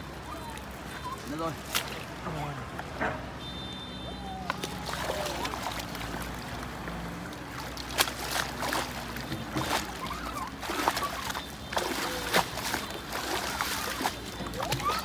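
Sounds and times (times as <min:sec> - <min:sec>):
water splashing and sloshing: 0:00.0 - 0:15.0
sharp water slaps: 0:00.5 - 0:03.3, 0:04.3 - 0:15.0.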